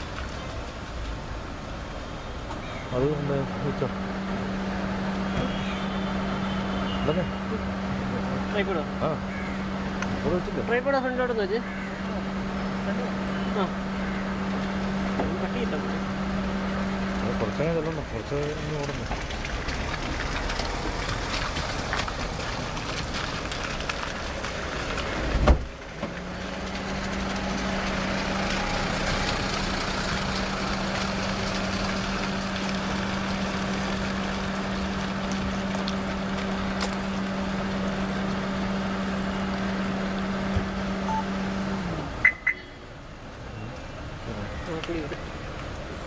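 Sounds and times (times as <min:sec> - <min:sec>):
traffic noise: 0:00.0 - 0:46.0
vehicle passing slowly: 0:03.0 - 0:46.0.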